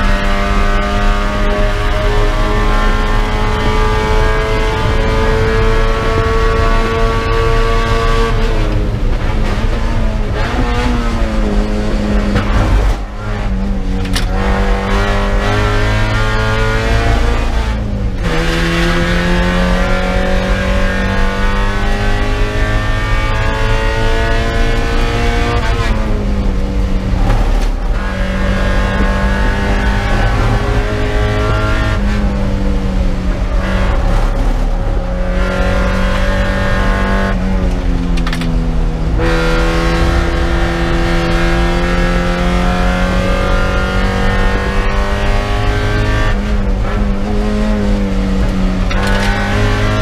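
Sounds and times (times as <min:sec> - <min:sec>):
car engine revving: 0:00.0 - 0:50.0
road noise: 0:00.0 - 0:50.0.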